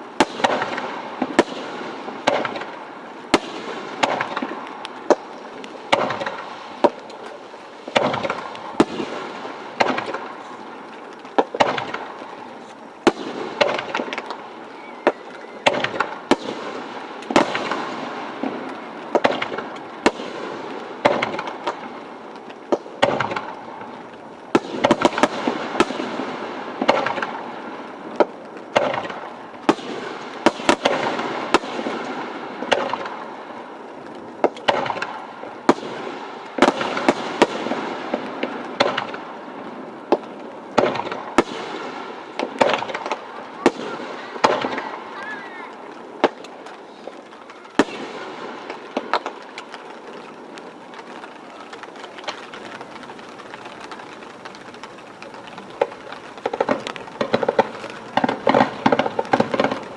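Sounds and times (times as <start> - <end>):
crackling hiss: 0.0 - 59.9
fireworks bursting in sharp bangs: 0.0 - 59.9.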